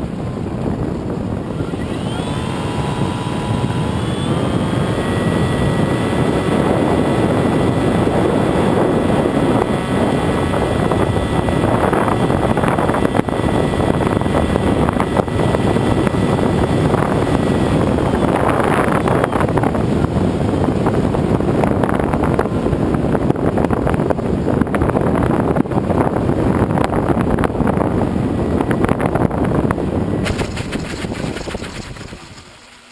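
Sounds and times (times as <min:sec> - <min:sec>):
propeller and motor noise: 0:00.0 - 0:32.9
steady whine: 0:00.0 - 0:32.9
wind rushing over microphone: 0:00.0 - 0:32.9.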